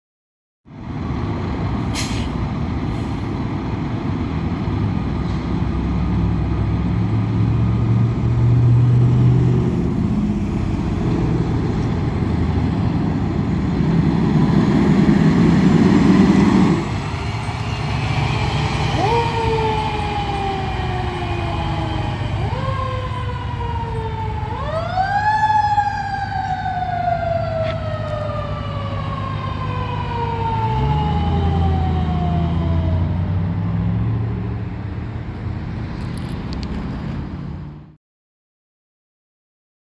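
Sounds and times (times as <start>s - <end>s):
fire truck engine rumbling: 0.7s - 38.0s.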